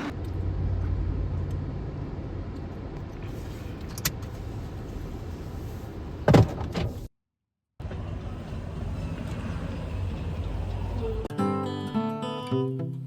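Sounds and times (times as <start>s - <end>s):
car road noise rumble: 0.0s - 7.1s, 7.8s - 11.3s.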